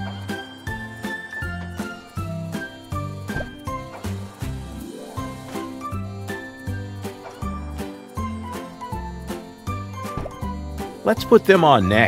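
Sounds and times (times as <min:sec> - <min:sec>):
bouncy cartoon music: 0:00.0 - 0:12.0.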